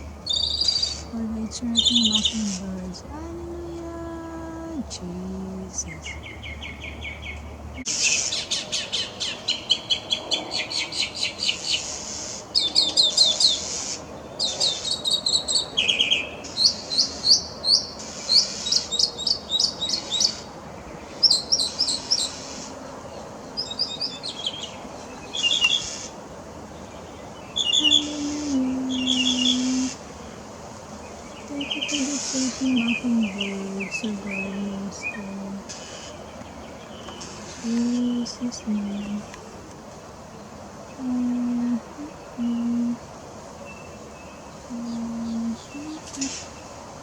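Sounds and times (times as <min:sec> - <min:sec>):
mockingbird singing: 0:00.0 - 0:11.9, 0:12.6 - 0:22.7, 0:23.6 - 0:26.1, 0:26.8 - 0:30.4, 0:31.0 - 0:39.5, 0:40.9 - 0:43.0, 0:43.6 - 0:46.6.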